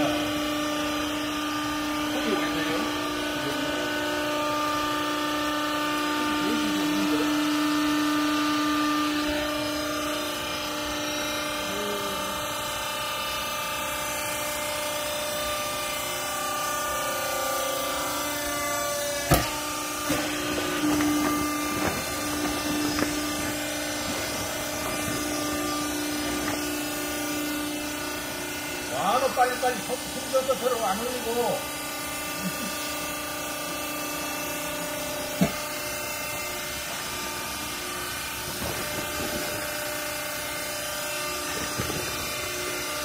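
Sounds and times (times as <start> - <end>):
hydraulic baler motor humming: 0.0 - 43.0.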